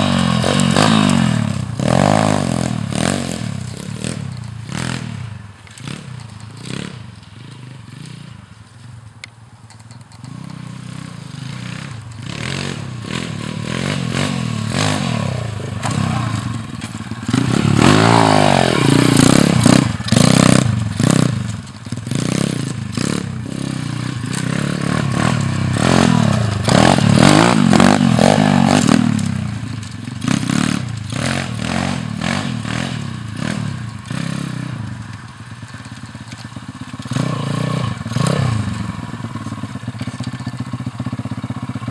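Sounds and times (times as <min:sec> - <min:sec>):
pit bike engine revving: 0:00.0 - 0:08.5, 0:10.2 - 0:41.9.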